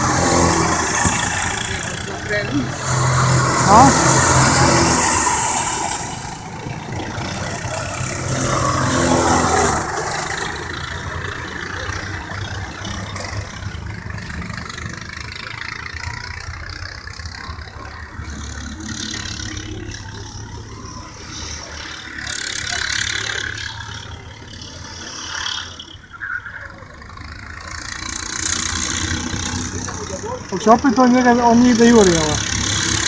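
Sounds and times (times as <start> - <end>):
go-kart engines buzzing: 0.0 - 33.0
go-kart passing by: 0.0 - 33.0.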